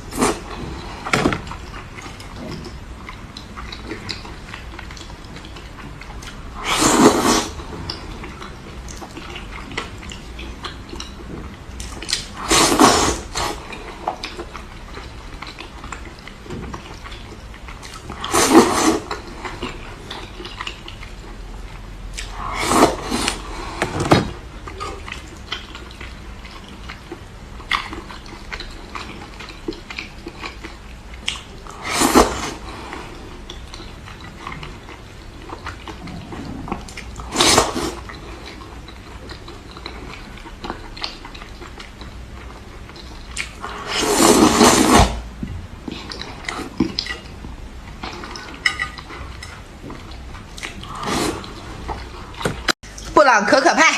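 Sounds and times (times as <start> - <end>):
quiet chewing: 0.1 - 44.8.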